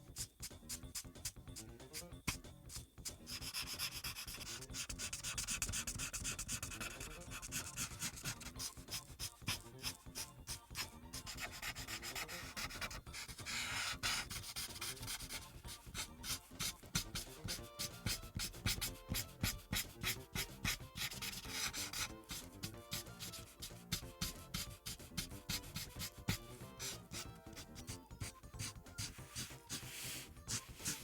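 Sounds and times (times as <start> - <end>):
marker rubbing on paper: 0.0 - 31.0.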